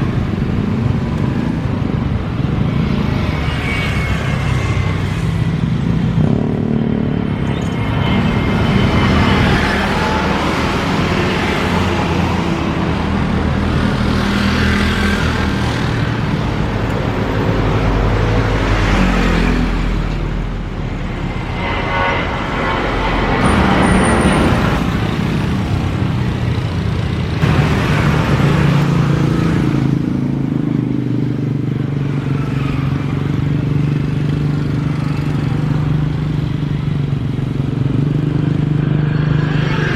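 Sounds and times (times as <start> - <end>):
cars passing: 0.0 - 39.9
motorcycles passing: 0.0 - 39.9.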